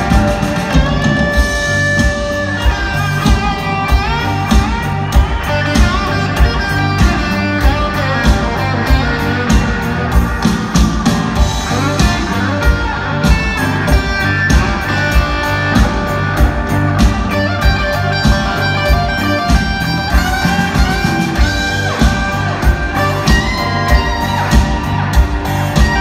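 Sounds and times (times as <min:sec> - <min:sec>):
bass: 0:00.0 - 0:26.0
drums: 0:00.0 - 0:26.0
electric guitar solo: 0:00.0 - 0:26.0.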